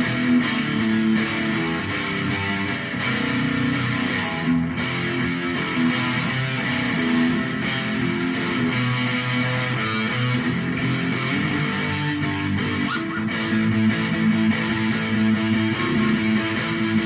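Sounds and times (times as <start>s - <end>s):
guitar playing held notes: 0.0s - 17.0s.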